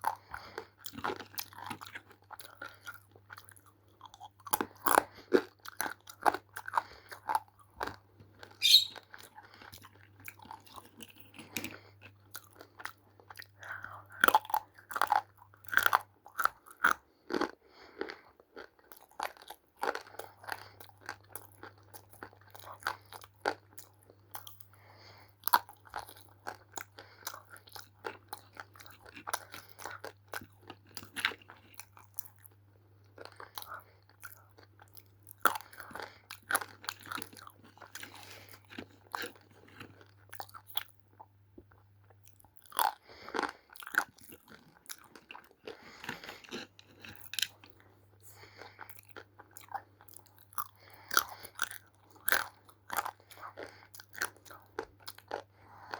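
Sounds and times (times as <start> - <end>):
person chewing clay crunchily: 0.0 - 55.9.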